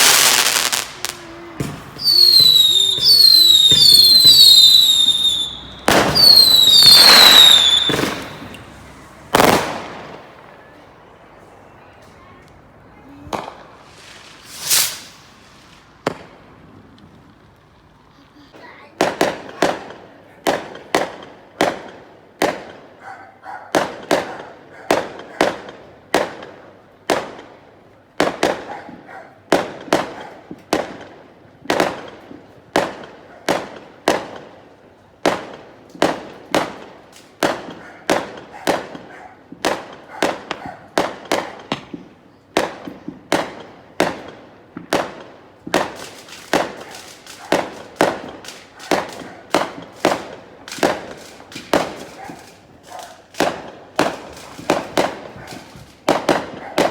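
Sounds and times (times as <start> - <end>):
fireworks bangs: 0.0 - 17.9, 18.8 - 22.9, 28.2 - 56.9.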